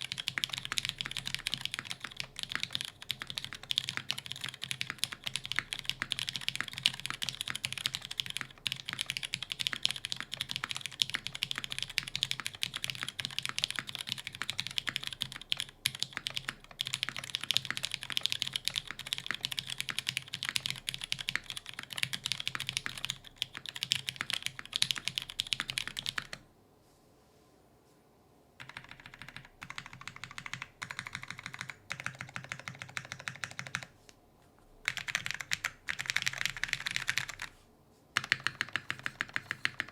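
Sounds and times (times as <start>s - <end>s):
mechanical keyboard typing: 0.0s - 26.4s, 28.6s - 33.9s, 34.8s - 37.6s, 38.2s - 39.9s.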